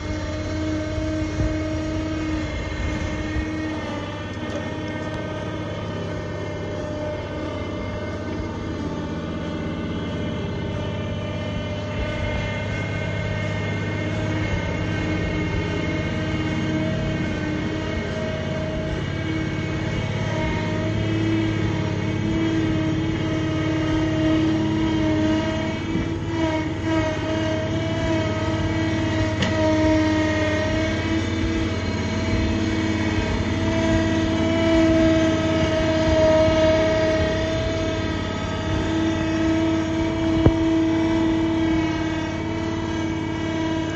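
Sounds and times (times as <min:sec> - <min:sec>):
steady whine: 0:00.0 - 0:43.9
tractor engine running: 0:00.0 - 0:43.9.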